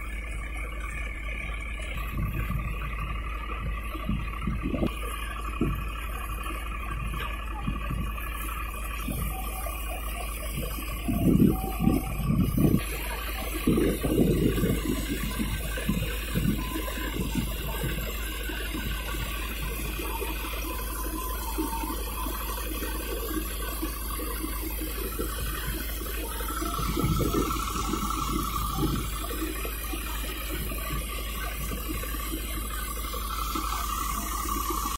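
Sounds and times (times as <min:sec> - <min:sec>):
steady high whine: 0:00.0 - 0:34.9
thresher rushing din: 0:02.0 - 0:34.9.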